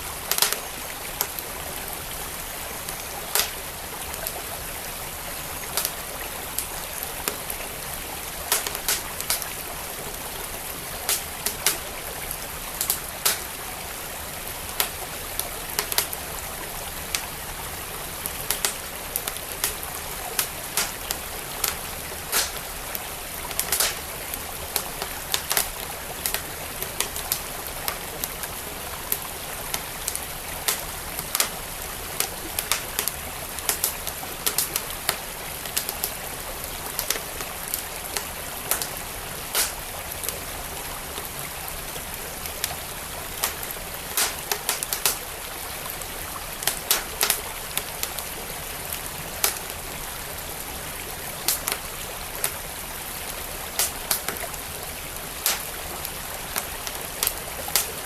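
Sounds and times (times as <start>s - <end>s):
stream flowing: 0.0s - 58.0s
wood fire crackling and popping: 0.1s - 40.5s, 41.1s - 58.0s.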